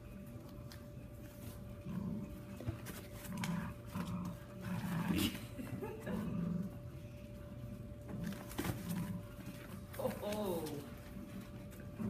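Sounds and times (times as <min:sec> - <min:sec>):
puppies growling: 0:01.2 - 0:10.1, 0:10.7 - 0:12.0.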